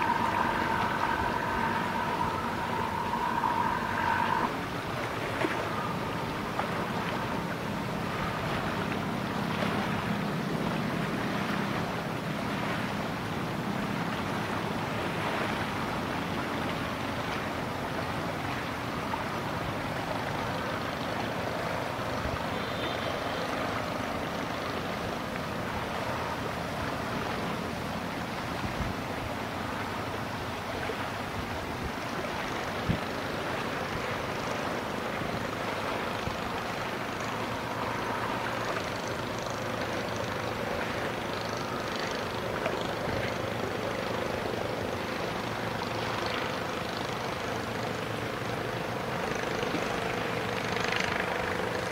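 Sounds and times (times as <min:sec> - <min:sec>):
faint boat engine hum: 0:00.0 - 0:51.9
river water: 0:00.0 - 0:51.9
wind: 0:00.0 - 0:51.9.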